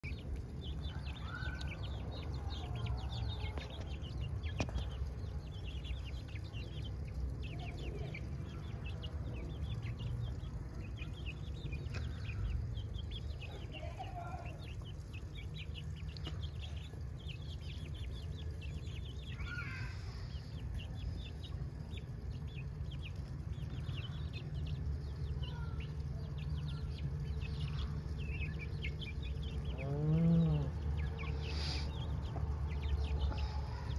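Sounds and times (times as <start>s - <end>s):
chickens clucking: 0.0s - 33.9s.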